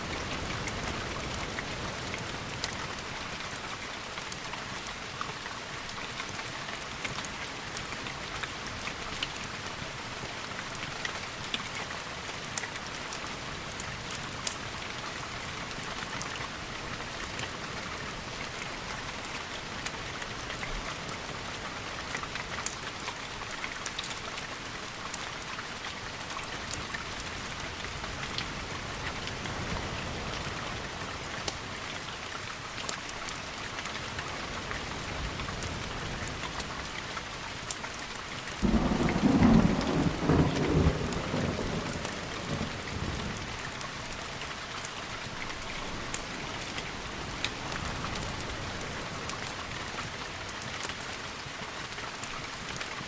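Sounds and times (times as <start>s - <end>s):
rain on windows: 0.0s - 53.0s.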